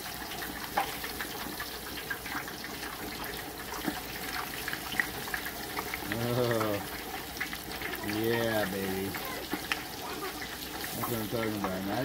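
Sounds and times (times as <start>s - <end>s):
hot oil bubbling and sizzling: 0.0s - 12.0s.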